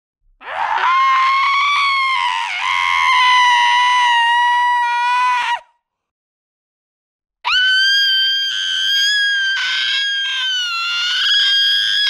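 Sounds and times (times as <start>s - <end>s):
person screaming: 0.4s - 5.7s, 7.5s - 12.0s.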